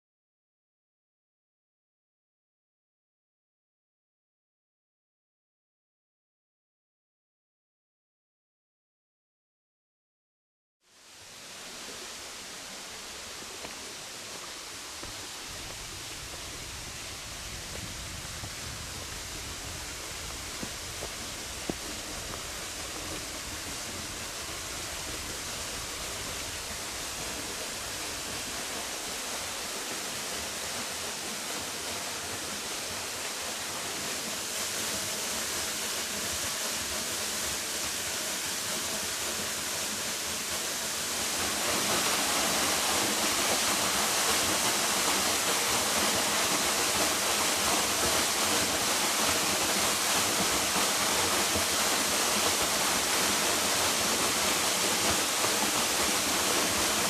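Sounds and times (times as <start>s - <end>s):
waterfall rushing: 10.9s - 57.0s.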